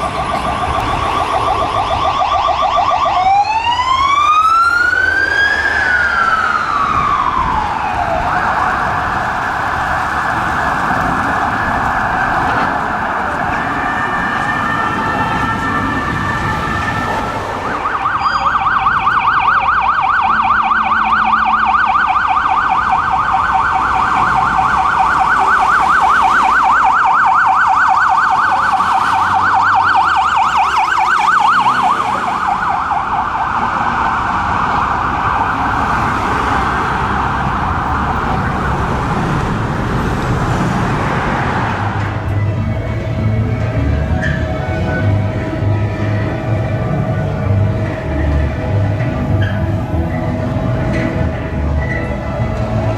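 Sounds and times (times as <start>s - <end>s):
ambulance siren: 0.0s - 52.9s.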